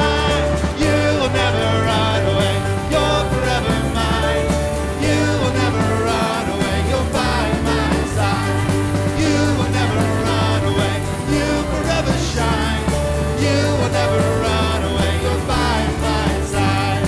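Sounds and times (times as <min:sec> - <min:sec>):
worship music with full band: 0:00.0 - 0:17.0.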